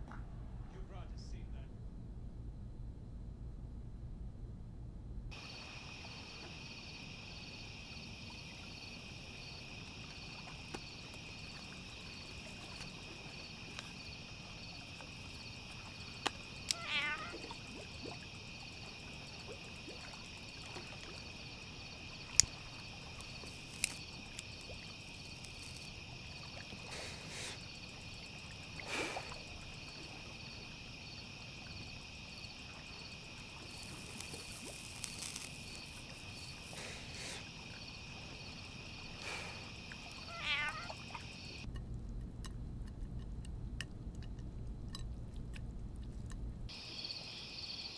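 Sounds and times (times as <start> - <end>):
crickets chirping: 5.3 - 47.9.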